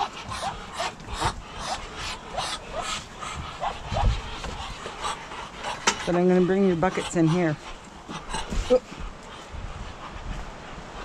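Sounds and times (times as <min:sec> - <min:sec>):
ducks peeping: 0:00.0 - 0:11.0.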